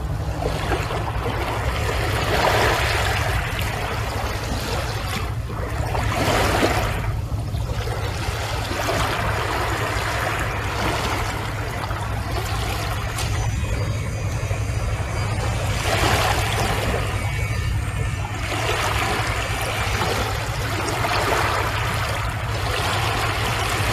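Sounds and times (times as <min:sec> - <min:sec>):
small waves washing onto beach: 0:00.0 - 0:23.9
steady low rumble: 0:00.0 - 0:23.9.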